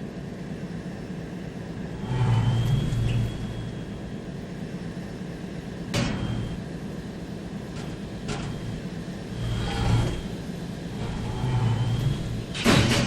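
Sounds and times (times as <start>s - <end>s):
locomotive idling rumble: 0.5s - 13.0s.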